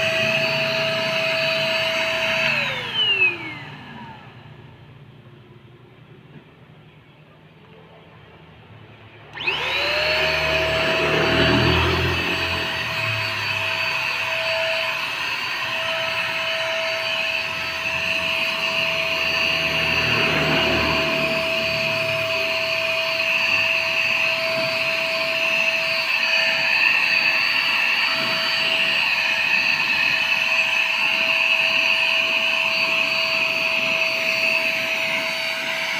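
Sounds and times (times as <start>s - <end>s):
paint sprayer motor whine: 0.0s - 4.9s, 9.2s - 35.9s.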